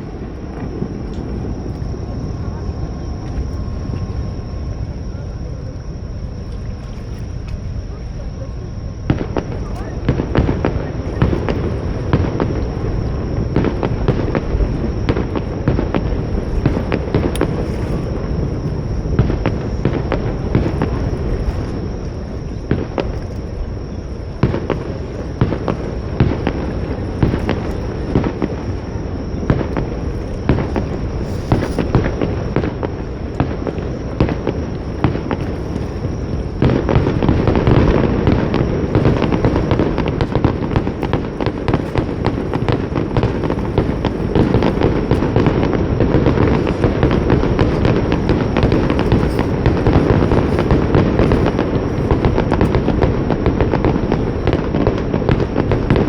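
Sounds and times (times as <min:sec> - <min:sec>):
fireworks bursting with sharp bangs: 0:00.0 - 0:05.1, 0:07.0 - 0:56.0
low rumble: 0:00.0 - 0:54.4.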